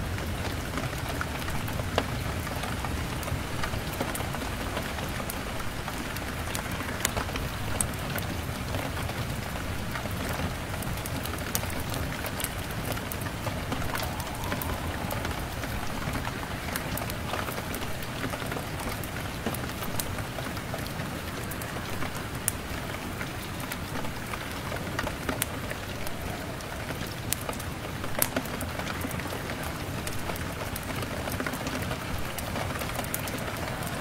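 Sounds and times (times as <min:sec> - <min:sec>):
rain pattering on window glass: 0:00.0 - 0:34.0
wood fire crackling: 0:00.1 - 0:34.0.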